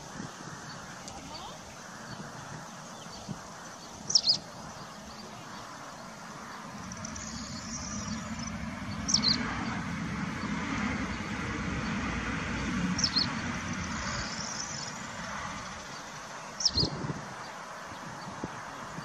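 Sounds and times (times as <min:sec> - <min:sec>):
low rumbling noise: 0:00.0 - 0:19.0
bird chirping: 0:00.6 - 0:12.0, 0:12.6 - 0:19.0.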